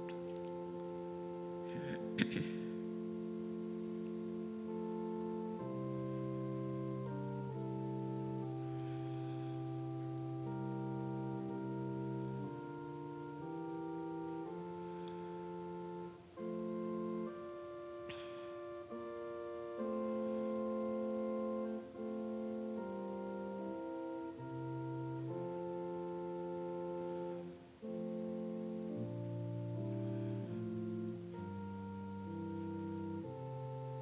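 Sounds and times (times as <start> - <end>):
slow keyboard chords: 0.0 - 34.0.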